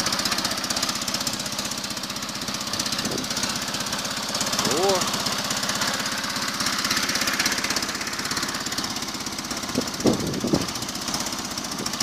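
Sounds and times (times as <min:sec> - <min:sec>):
petrol engine running: 0:00.0 - 0:12.0.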